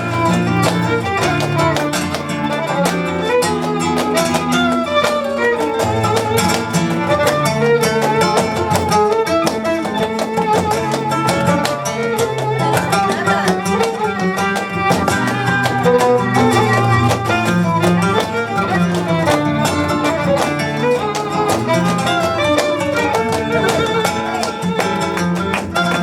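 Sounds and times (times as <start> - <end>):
sharp percussive clicks: 0.0 - 26.0
violin melody: 0.0 - 26.0.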